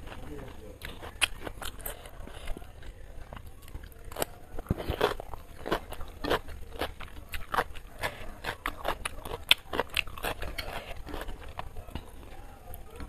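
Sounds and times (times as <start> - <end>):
crunching cucumber: 0.0 - 12.1.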